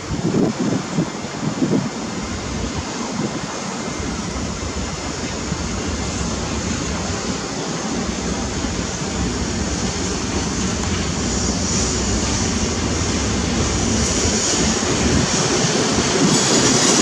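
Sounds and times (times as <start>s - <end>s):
electric locomotive hauling freight: 0.0s - 17.0s.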